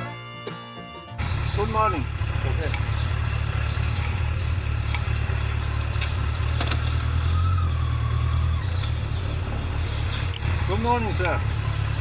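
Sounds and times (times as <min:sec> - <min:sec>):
motorcycle engine idling: 0:01.2 - 0:12.0.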